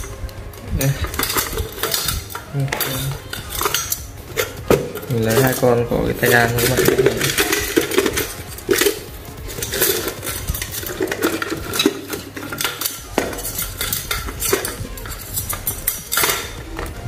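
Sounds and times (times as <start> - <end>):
small plastic parts clicking and clattering: 0.0 - 17.0.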